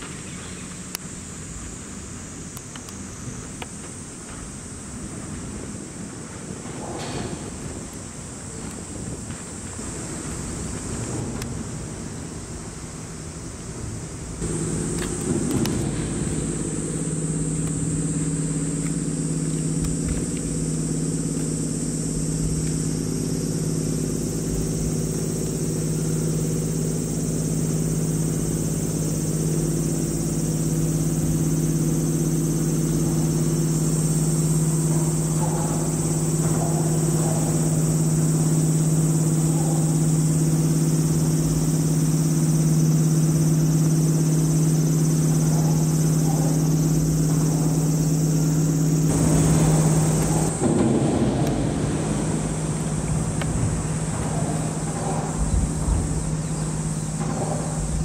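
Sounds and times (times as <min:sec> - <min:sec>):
diesel boat engine droning: 0:00.0 - 0:58.0
steady high hiss: 0:00.0 - 0:58.0.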